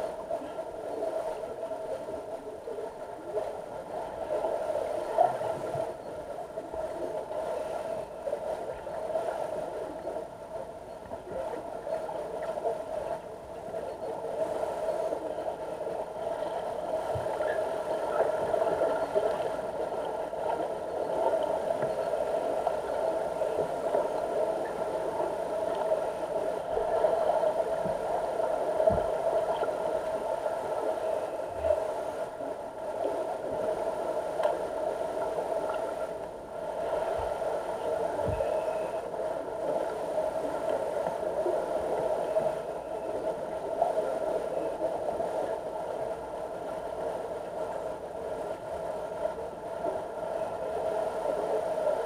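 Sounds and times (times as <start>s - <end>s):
underwater mechanical hum: 0.0s - 52.0s.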